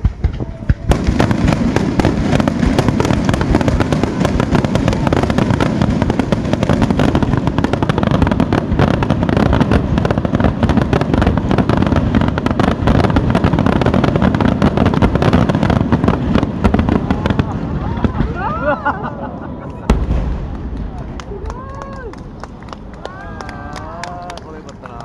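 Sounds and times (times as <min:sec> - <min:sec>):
fireworks bursts and crackles: 0:00.0 - 0:25.0.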